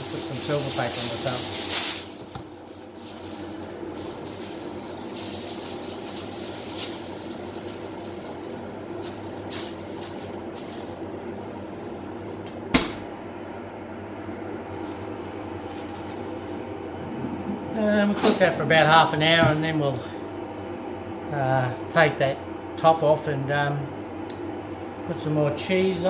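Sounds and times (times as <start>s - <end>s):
machine fan hum: 0.0s - 26.0s.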